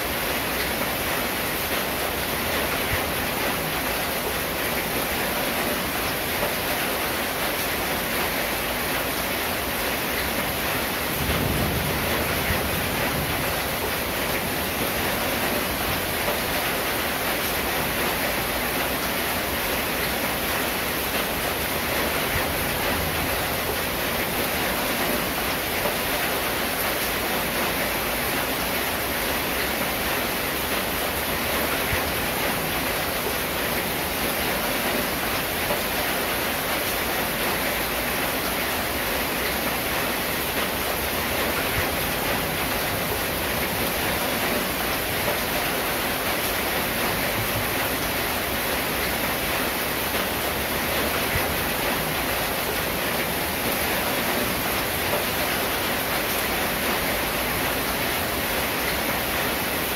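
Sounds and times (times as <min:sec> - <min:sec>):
rain on a metal roof: 0:00.0 - 0:59.9.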